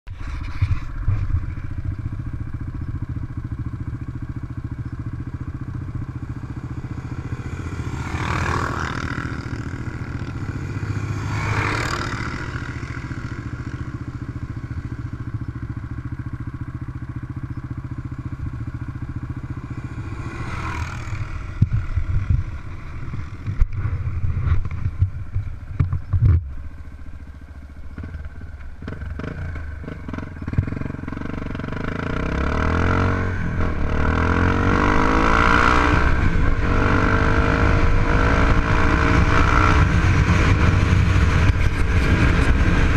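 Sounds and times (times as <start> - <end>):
motorcycle engine running: 0.1 - 42.9.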